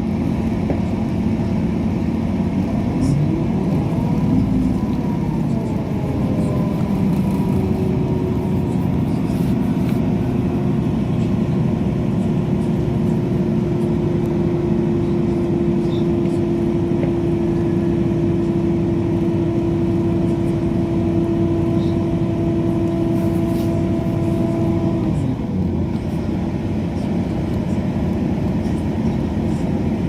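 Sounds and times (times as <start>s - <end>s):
train rumbling inside carriage: 0.0s - 30.0s.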